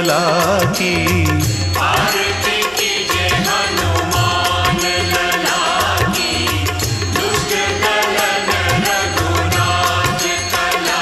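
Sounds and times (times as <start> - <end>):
percussion beat: 0.0 - 11.0.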